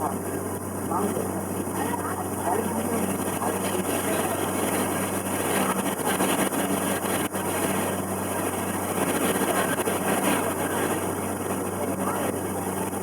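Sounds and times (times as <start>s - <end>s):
boat engine hum: 0.0s - 13.0s.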